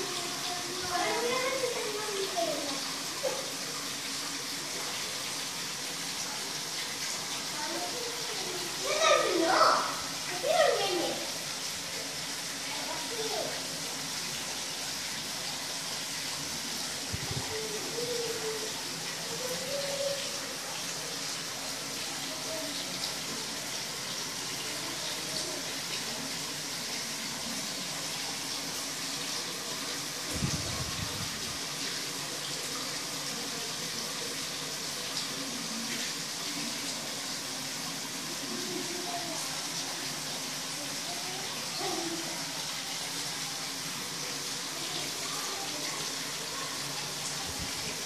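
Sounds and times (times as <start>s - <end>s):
water pouring into a tub: 0.0s - 48.0s.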